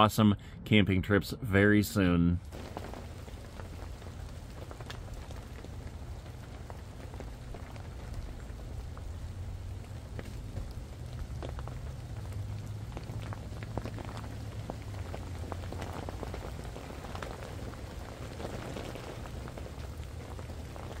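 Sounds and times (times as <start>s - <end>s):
drops ticking: 2.4s - 21.0s
low rumble: 2.4s - 21.0s
steady rain falling: 2.4s - 21.0s.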